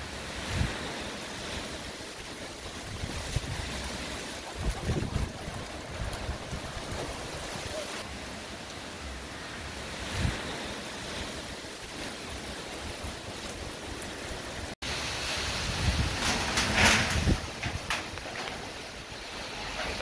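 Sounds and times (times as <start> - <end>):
rain falling on leaves: 0.0 - 20.0
wind gusting against microphone: 0.0 - 20.0.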